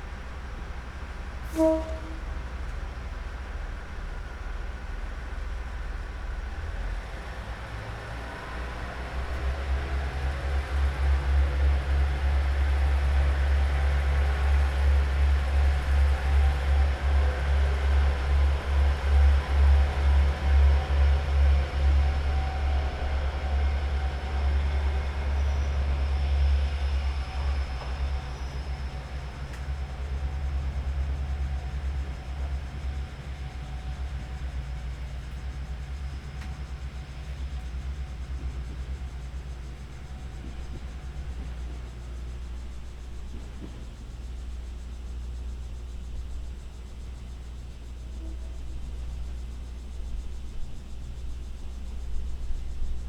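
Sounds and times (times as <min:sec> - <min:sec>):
diesel railcar engine: 0:00.0 - 0:53.0.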